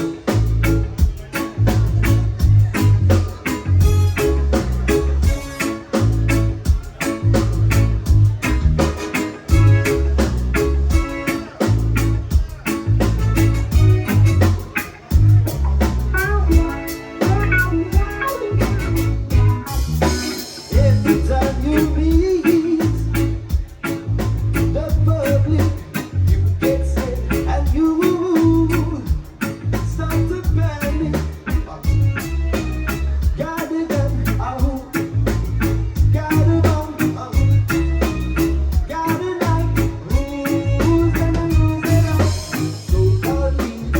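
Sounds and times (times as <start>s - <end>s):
live band playing: 0.0s - 43.9s.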